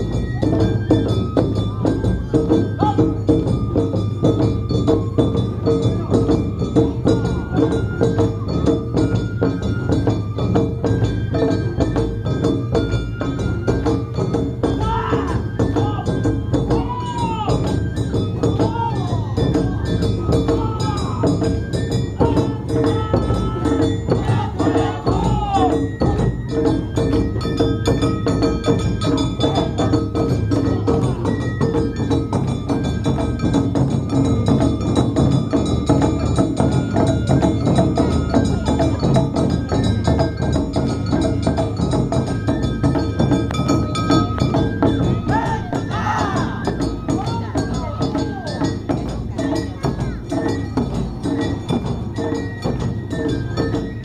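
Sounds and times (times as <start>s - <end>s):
drums: 0.0s - 54.0s.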